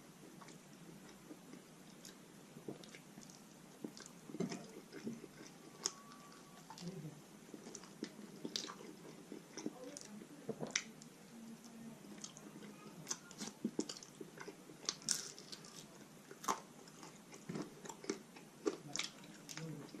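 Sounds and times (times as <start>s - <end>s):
person chewing meat: 0.3s - 11.0s, 12.1s - 20.0s.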